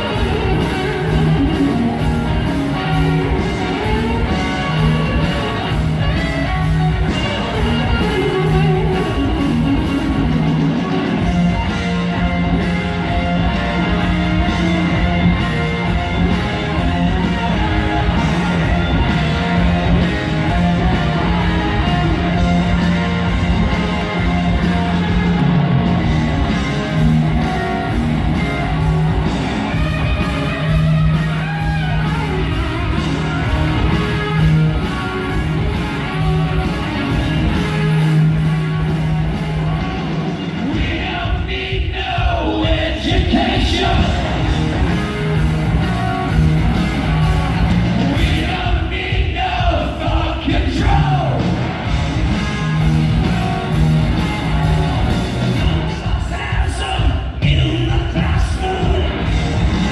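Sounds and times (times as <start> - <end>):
electric guitars: 0.0 - 41.8, 42.7 - 59.9
drums: 0.0 - 59.9
live rock band playing loud: 0.0 - 59.9.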